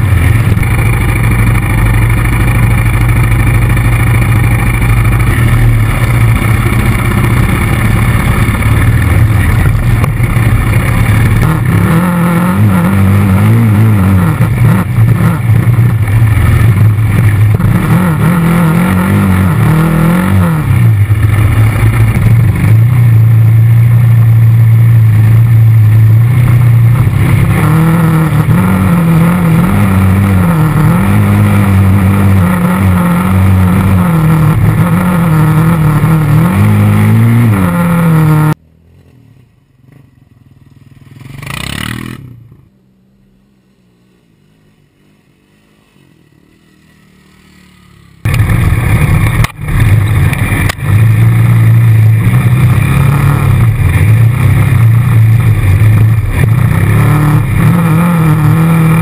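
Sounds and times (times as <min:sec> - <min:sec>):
atv engine revving: 0:00.0 - 0:39.1, 0:40.6 - 0:59.0.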